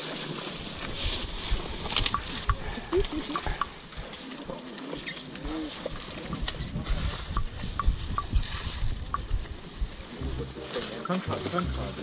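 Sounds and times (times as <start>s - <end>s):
elephant chewing food: 0.0s - 12.0s
trunk sweeping up grass: 0.0s - 12.0s.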